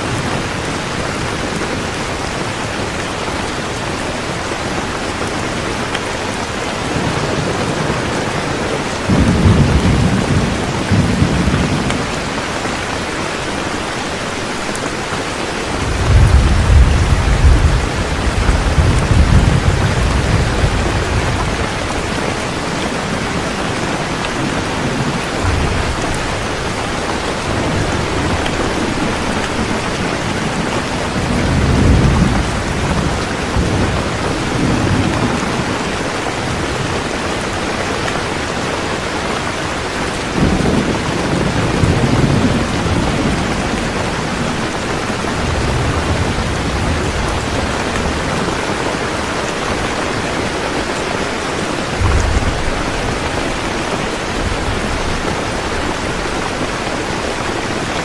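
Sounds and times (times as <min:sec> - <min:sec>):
heavy rain falling: 0:00.0 - 0:58.0
thunder rumbling: 0:06.4 - 0:13.8, 0:15.6 - 0:37.7, 0:40.2 - 0:58.0.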